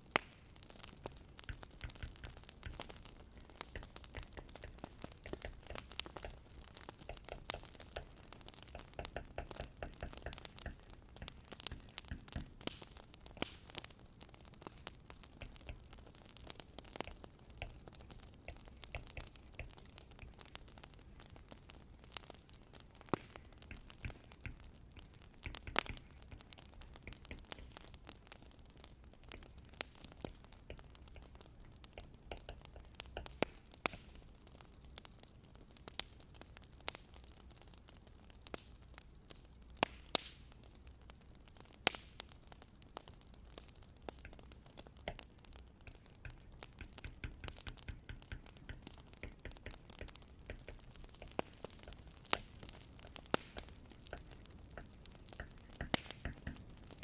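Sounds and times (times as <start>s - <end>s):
firewood crackling: 0.0s - 57.0s
sharp pops of burning wood: 0.0s - 57.0s.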